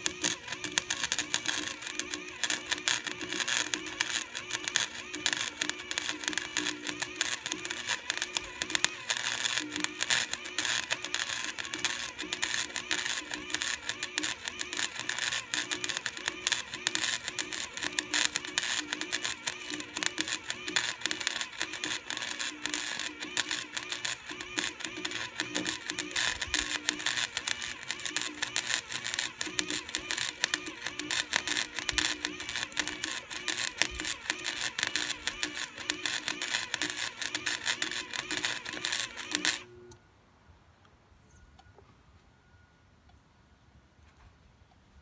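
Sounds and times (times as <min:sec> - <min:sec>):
electric arc welding crackling: 0:00.0 - 0:39.7.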